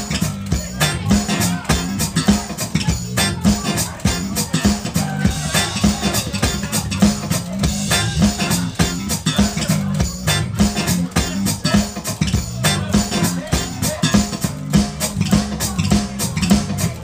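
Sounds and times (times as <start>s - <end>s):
drum beat: 0.0s - 17.0s
guitar riffing: 0.0s - 17.0s.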